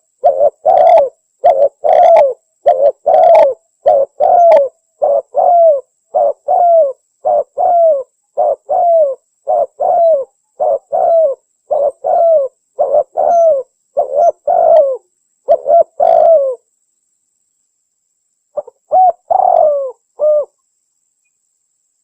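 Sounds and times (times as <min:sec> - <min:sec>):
dove cooing: 0:00.0 - 0:16.6, 0:18.6 - 0:20.6.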